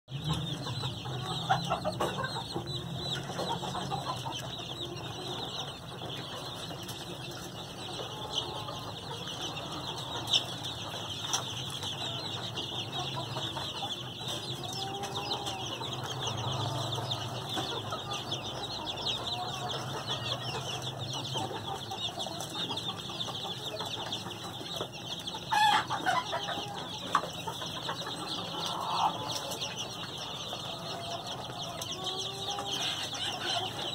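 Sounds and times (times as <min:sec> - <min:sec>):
chicks peeping: 0:00.1 - 0:33.9
hen clucking: 0:00.1 - 0:33.9.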